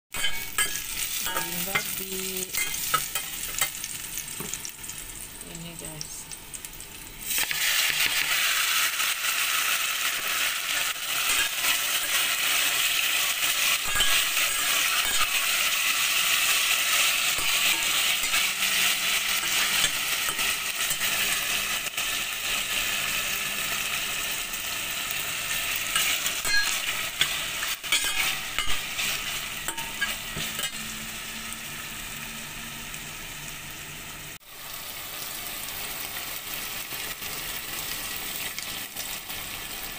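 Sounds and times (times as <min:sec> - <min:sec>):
meat sizzling in oil: 0:00.2 - 0:39.9.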